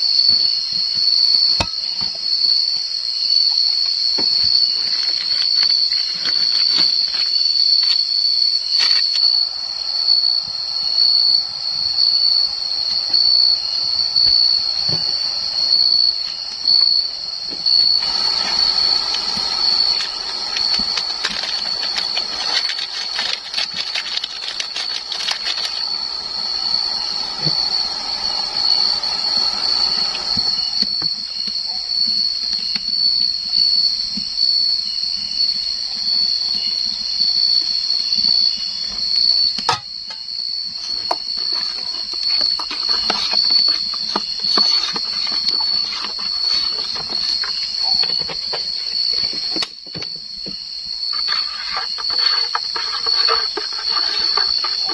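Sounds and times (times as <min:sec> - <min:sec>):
insect trilling: 0:00.0 - 0:54.9.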